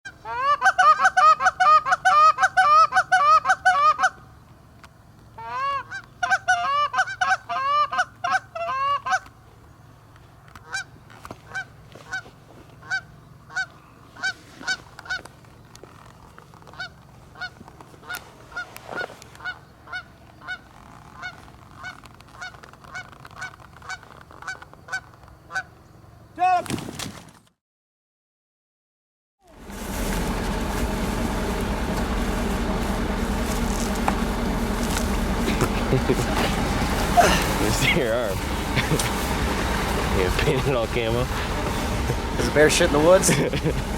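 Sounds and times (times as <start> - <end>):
geese honking: 0.1 - 4.2, 5.4 - 9.3, 10.6 - 15.3, 16.6 - 20.6, 21.2 - 25.8, 29.6 - 43.9.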